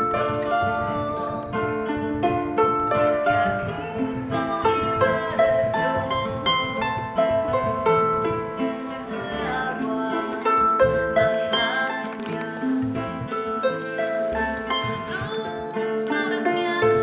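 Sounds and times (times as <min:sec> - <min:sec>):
acoustic guitar picking: 0:00.0 - 0:17.0
harp melody: 0:00.0 - 0:17.0.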